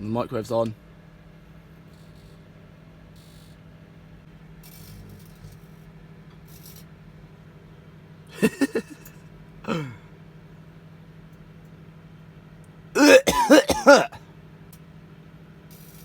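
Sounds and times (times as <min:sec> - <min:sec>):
microwave oven humming: 0:00.6 - 0:15.8.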